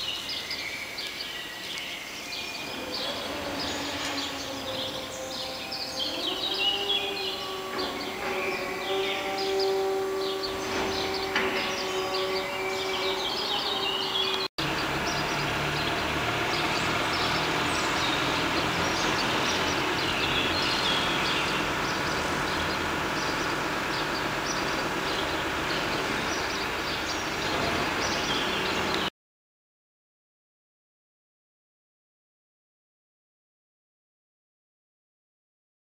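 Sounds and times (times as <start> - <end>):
distant traffic rumble: 0.0 - 29.1
small birds chirping: 0.0 - 29.1.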